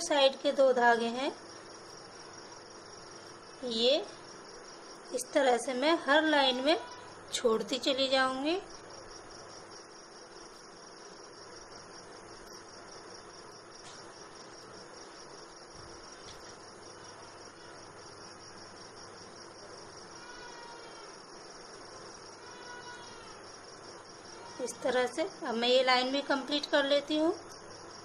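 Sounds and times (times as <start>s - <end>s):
insect trilling: 0.0s - 28.0s.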